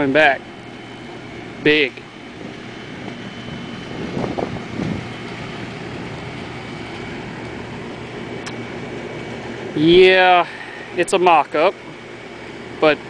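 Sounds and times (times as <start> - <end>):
mechanical background hum: 0.0 - 13.0.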